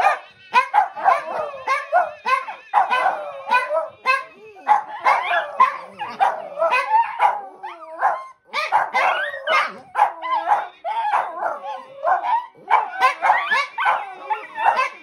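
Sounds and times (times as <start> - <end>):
dogs whining: 0.0 - 15.0
small dogs barking and yipping: 0.0 - 15.0.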